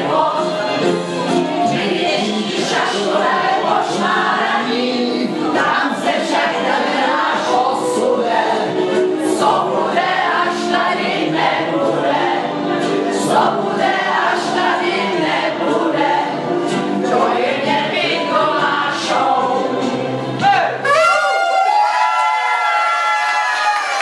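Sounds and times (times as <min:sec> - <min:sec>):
women singing together: 0:00.0 - 0:20.2.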